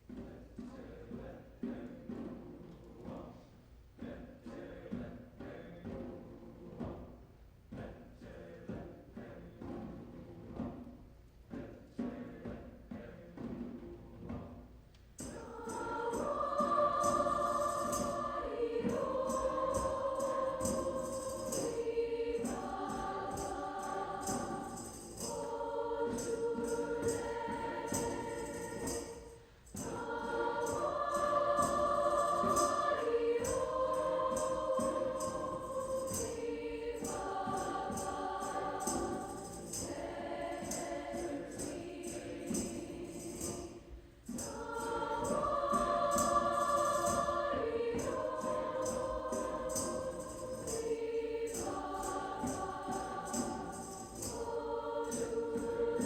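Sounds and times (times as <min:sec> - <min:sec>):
choir singing: 0:00.0 - 0:14.6, 0:15.2 - 0:56.0
shaken percussion beat: 0:00.0 - 0:56.0.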